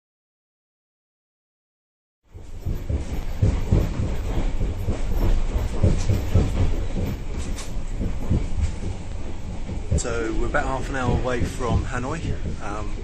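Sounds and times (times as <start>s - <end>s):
train rumbling on rails: 2.3s - 13.0s
wheels clattering over track: 2.3s - 13.0s.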